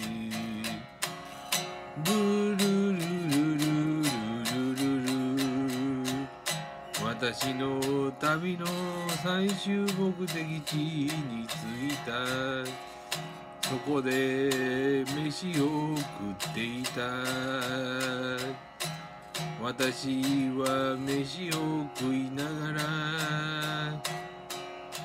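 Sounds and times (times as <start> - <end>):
man singing: 0.0 - 24.3
electric guitar strumming: 0.0 - 25.0.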